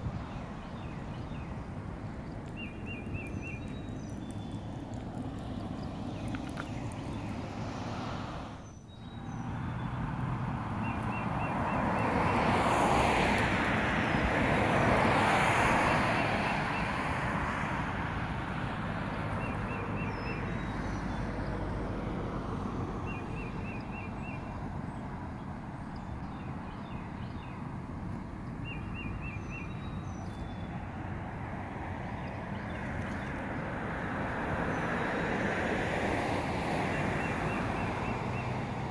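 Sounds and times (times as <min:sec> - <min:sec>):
cars passing on road: 0:00.0 - 0:38.9.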